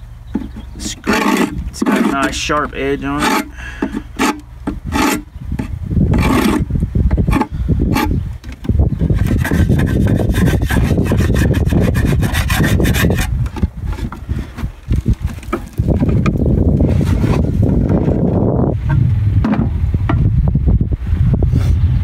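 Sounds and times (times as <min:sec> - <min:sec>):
metal tool scraping wood: 0:00.3 - 0:18.1.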